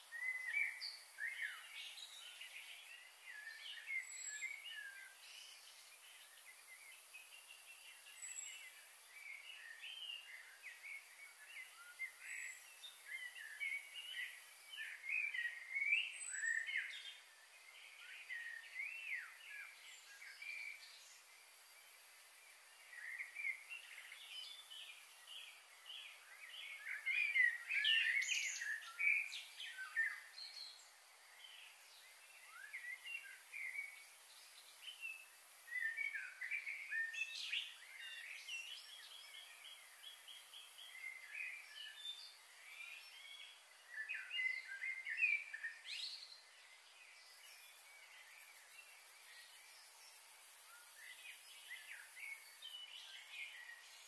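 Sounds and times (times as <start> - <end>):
faint high hiss: 0.0 - 54.0
songbirds chirping: 0.0 - 54.0.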